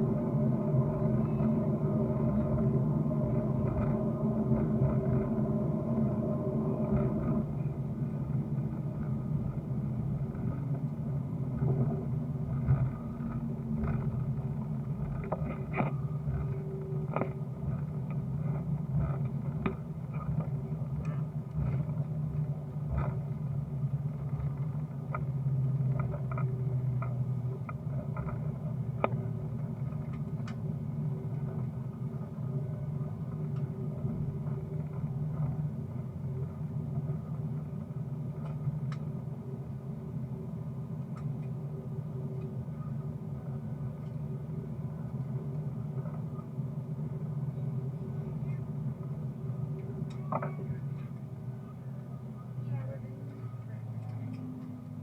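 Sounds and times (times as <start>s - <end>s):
vehicle interior rumble: 0.0s - 55.0s.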